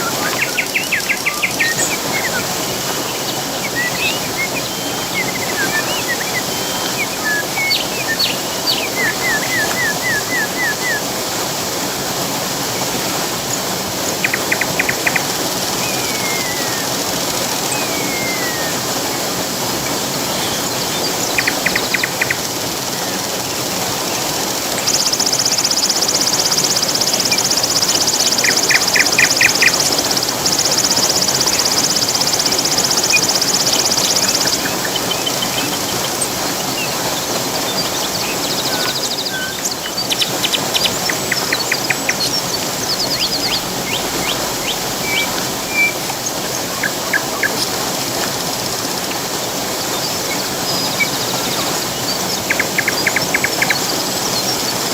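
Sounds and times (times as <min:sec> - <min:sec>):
birds trilling and whistling: 0:00.0 - 0:12.0, 0:12.6 - 0:54.9
rushing water: 0:00.0 - 0:54.9.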